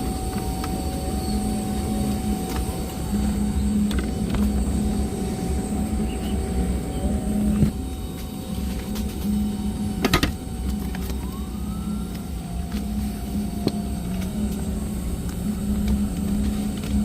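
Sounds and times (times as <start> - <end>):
cabin ventilation hum: 0.0 - 17.0.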